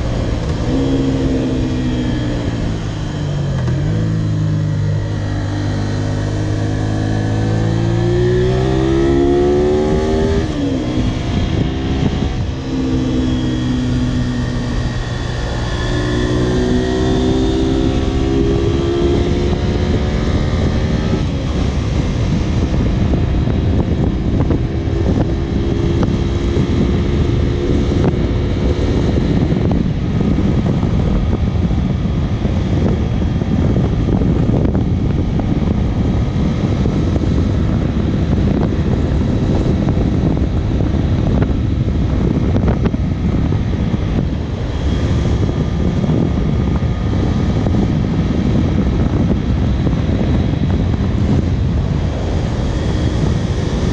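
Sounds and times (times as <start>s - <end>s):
heavy wind rush: 0.0s - 53.9s
motorcycle engine running: 0.0s - 53.9s.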